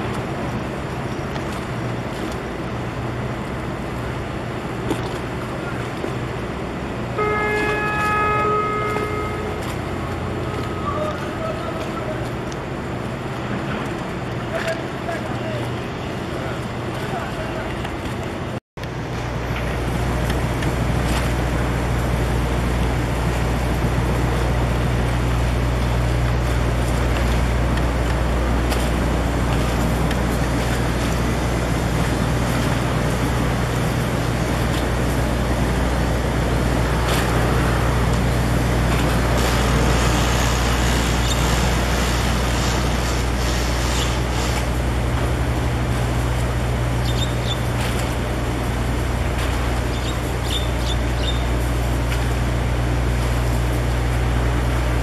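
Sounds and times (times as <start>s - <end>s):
motorboat engine humming: 0.0s - 55.0s
water wash: 0.0s - 55.0s.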